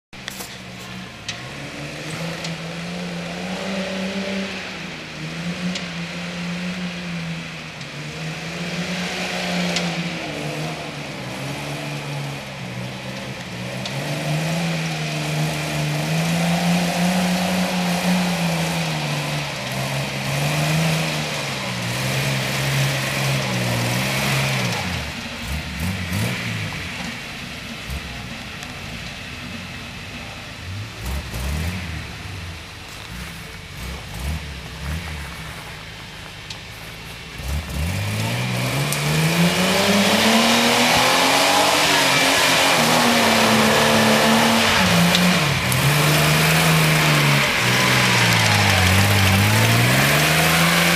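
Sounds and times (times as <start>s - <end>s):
engine revving on rough track: 0.1s - 50.9s.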